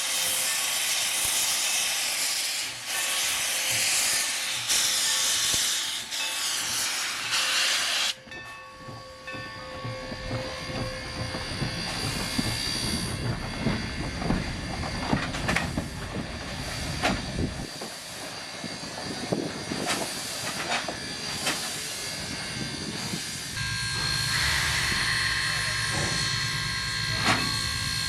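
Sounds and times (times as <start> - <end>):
steam hissing: 0.0 - 8.2, 10.6 - 28.0
train rumble: 0.0 - 28.0
train wheels clicking over rail joints: 0.1 - 28.0.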